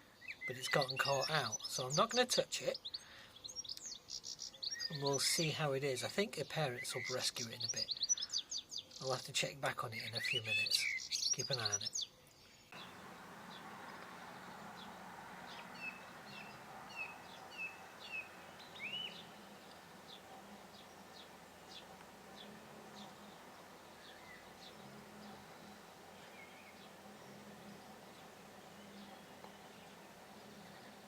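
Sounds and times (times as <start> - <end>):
sparrow chirping: 0.2 - 9.3, 9.9 - 31.0.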